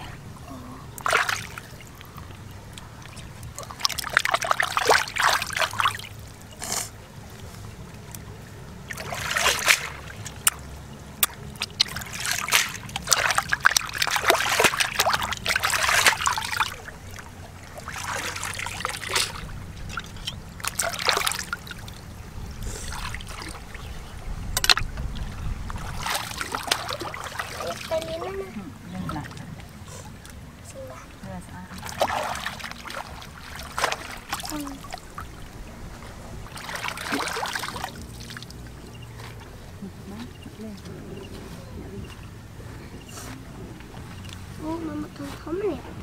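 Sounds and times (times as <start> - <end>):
water splashing and trickling: 0.0 - 46.0.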